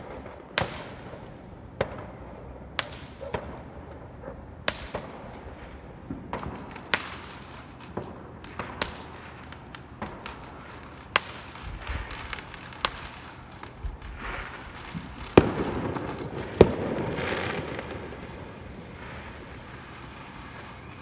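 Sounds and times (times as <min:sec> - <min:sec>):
fireworks bangs: 0:00.0 - 0:21.0
fireworks crackles: 0:00.0 - 0:21.0.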